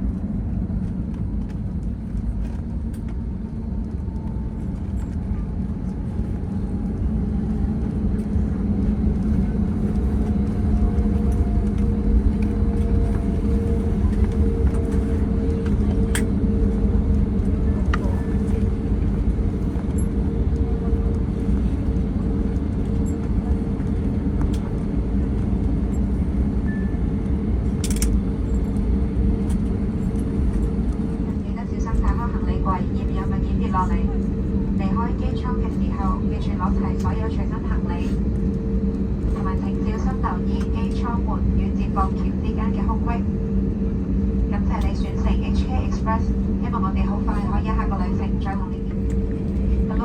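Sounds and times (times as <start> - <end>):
aircraft cabin engine drone: 0.0 - 50.0
steady hums: 0.0 - 50.0.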